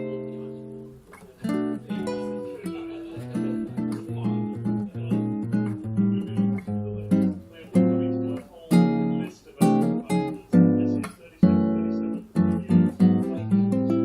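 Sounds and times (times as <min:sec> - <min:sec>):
guitar strummed in chords: 0:00.0 - 0:14.0.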